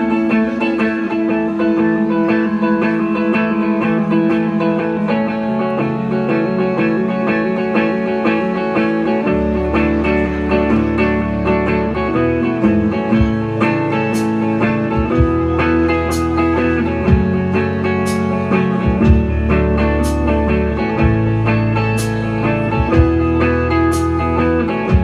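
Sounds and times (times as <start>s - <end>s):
bass line: 0.0s - 25.0s
strummed guitars: 0.0s - 25.0s.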